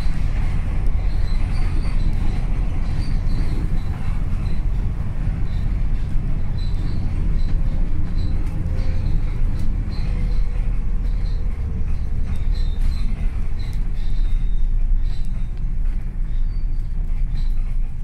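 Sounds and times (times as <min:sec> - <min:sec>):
vehicle rumbling in motion: 0:00.0 - 0:18.0.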